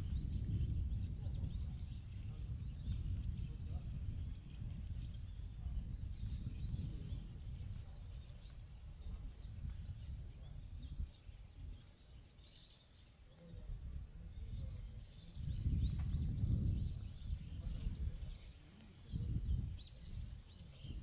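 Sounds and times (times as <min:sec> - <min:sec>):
wind on microphone: 0:00.0 - 0:12.7, 0:13.3 - 0:21.0
faint bird chirps: 0:00.0 - 0:21.0.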